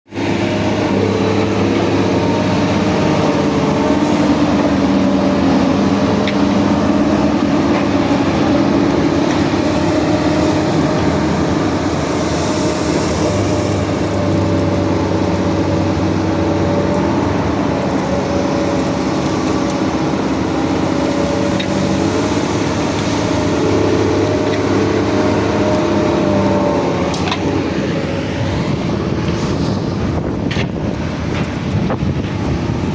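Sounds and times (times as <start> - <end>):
diesel engine running: 0.1 - 32.9.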